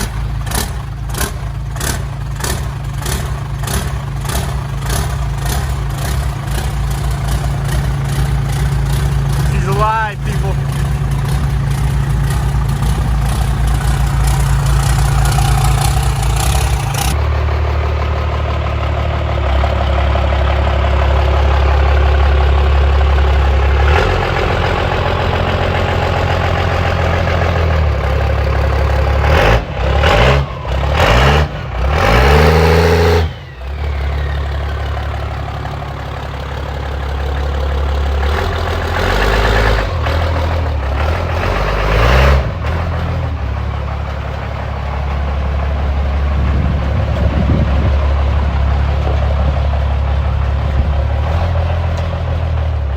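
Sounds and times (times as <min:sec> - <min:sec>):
vehicle engine revving: 0:00.0 - 0:52.9.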